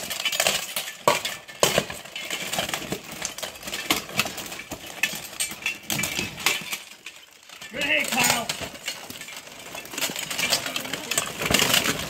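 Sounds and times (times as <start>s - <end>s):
plate armor clanking and scraping: 0.0s - 12.0s.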